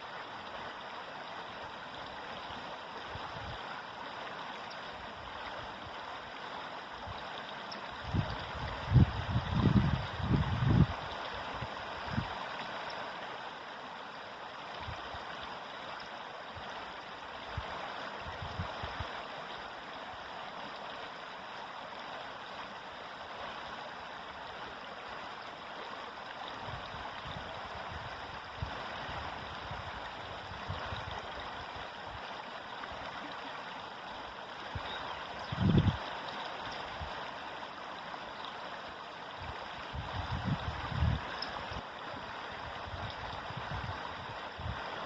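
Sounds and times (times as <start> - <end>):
river water flowing: 0.0 - 45.0.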